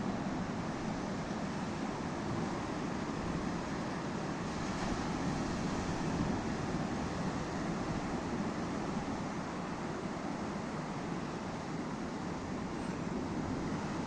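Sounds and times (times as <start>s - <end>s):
surf waves rushing onto shore: 0.0s - 14.0s.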